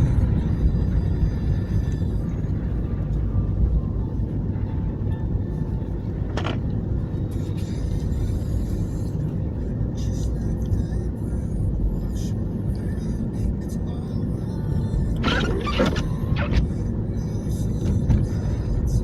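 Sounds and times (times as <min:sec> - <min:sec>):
car driving rumble: 0:00.0 - 0:19.0.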